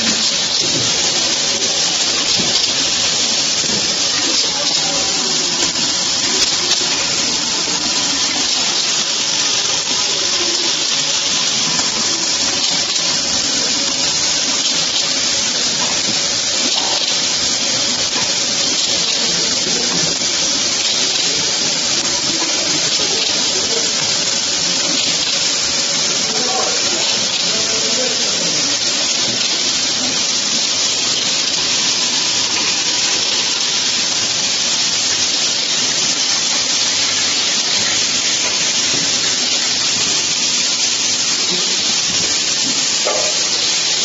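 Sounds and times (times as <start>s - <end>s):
machine rushing hiss: 0.0s - 44.0s.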